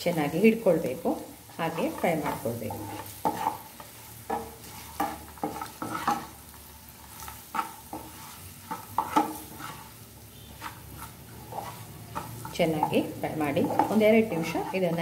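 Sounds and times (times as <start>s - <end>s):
frying oil sizzling: 0.0s - 15.0s
spatula scraping frying pan: 0.0s - 15.0s.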